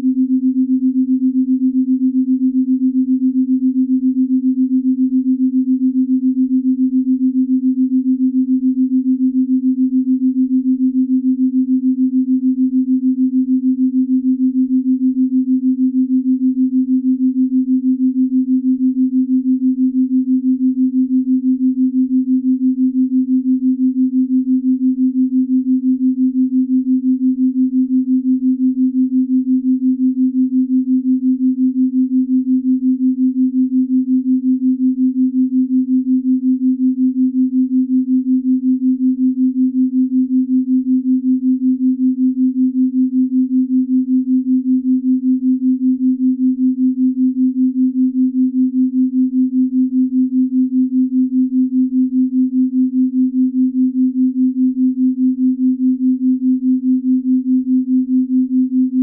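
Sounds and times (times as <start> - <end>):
low pulsing pure hum: 0.0 - 59.0.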